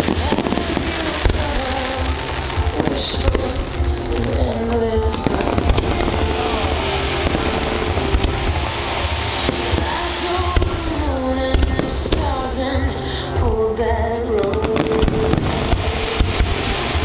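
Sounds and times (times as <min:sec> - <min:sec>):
fireworks bangs and crackles: 0:00.0 - 0:17.0
song over loudspeakers: 0:00.0 - 0:17.0.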